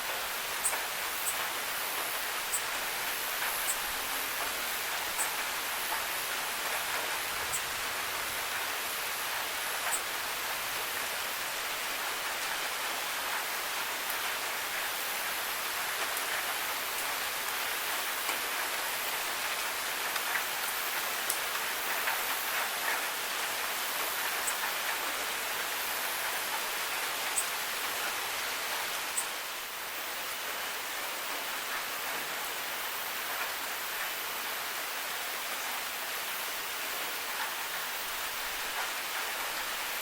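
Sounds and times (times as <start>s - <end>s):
steady rain on hard surfaces: 0.0s - 40.0s.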